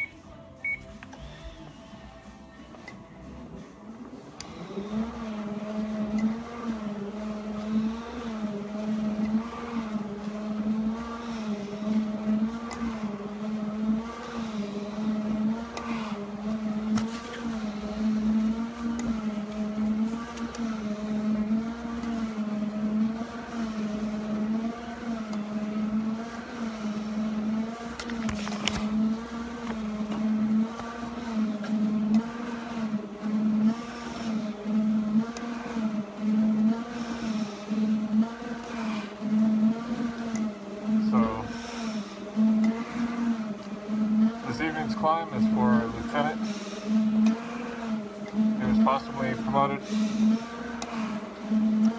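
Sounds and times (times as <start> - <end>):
stair-climbing machine motor whine: 0.0 - 51.9.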